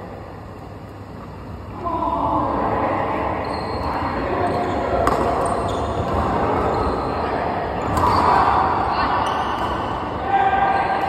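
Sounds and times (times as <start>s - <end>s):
echoing din of voices: 0.0s - 11.0s.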